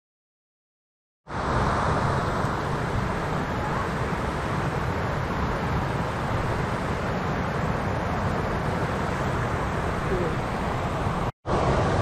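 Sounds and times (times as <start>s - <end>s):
forest stream rushing over rapids: 1.3s - 12.0s.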